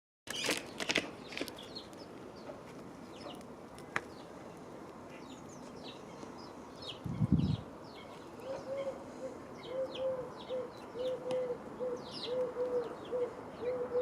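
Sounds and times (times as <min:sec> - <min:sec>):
birds chirping: 0:00.3 - 0:14.0
steady outdoor hiss: 0:00.3 - 0:14.0.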